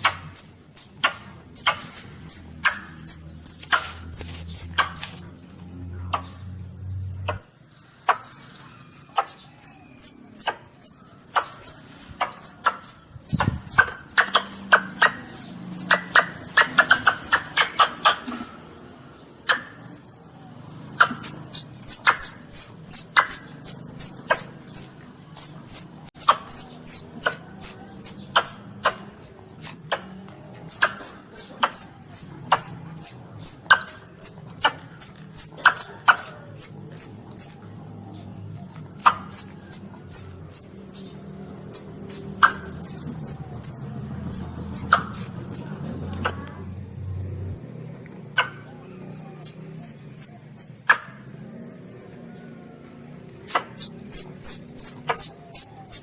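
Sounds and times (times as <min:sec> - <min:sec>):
civet squeaking calls: 0:00.0 - 0:05.5, 0:08.0 - 0:18.4, 0:20.9 - 0:46.6, 0:48.3 - 0:56.0.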